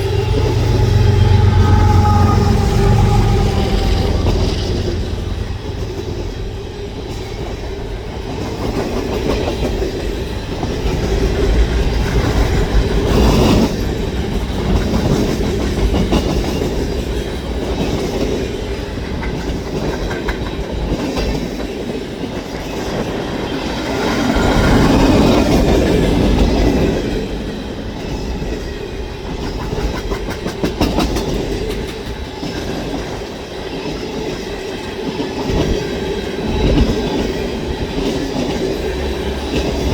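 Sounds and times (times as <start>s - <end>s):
train rumbling past: 0.0s - 39.9s
wheels clacking over rail joints: 0.0s - 39.9s.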